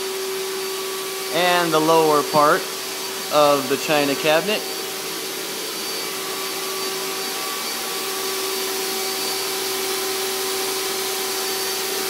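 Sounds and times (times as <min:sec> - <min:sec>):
electric machine whirring: 0:00.0 - 0:12.0.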